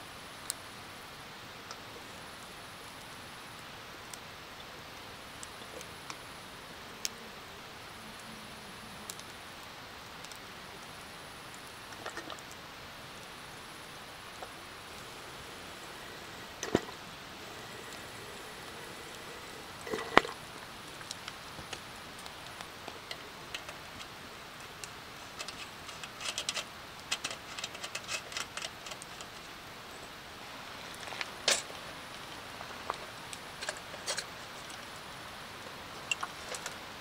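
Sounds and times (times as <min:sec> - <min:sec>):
faint steady hiss: 0:00.0 - 0:37.0.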